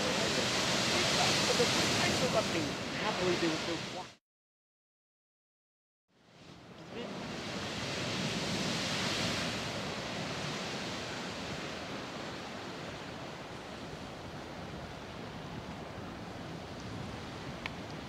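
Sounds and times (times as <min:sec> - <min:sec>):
geyser rushing water and steam: 0:00.0 - 0:04.2, 0:06.3 - 0:18.0.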